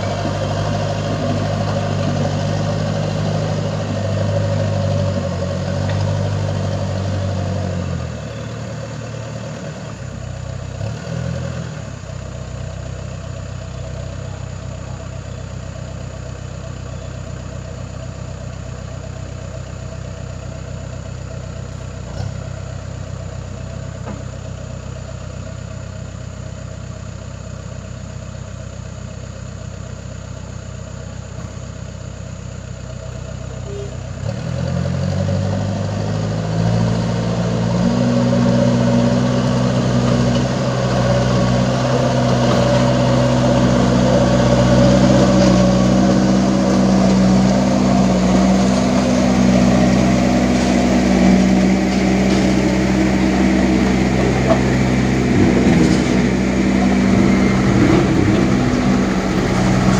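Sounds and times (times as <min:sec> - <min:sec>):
diesel engine running and revving: 0:00.0 - 0:59.9.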